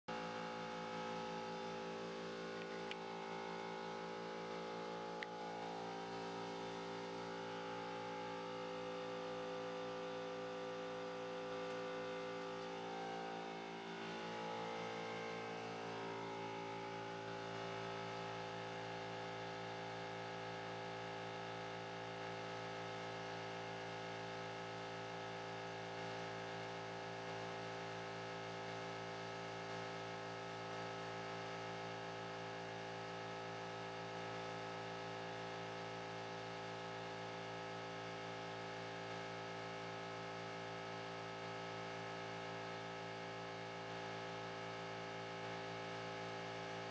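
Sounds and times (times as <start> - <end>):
machine electrical hum: 0.1 - 46.9.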